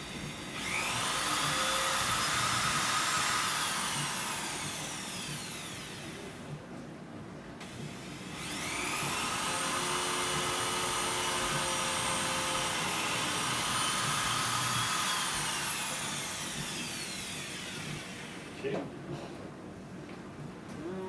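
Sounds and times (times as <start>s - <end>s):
electric drill boring wood: 0.0s - 6.5s, 7.6s - 18.7s.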